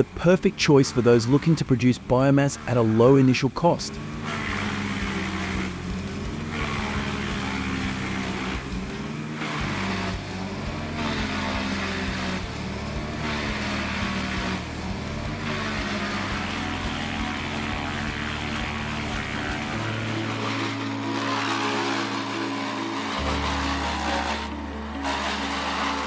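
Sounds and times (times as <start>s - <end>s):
rushing chipping noise: 0.0s - 26.0s
wood chipper engine drone: 0.0s - 26.0s.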